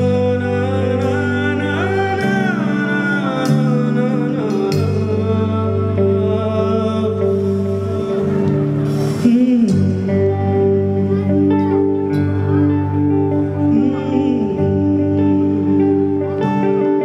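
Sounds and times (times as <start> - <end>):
electric bass: 0.0 - 17.0
gliding melody line: 0.0 - 17.0
live band playing: 0.0 - 17.0.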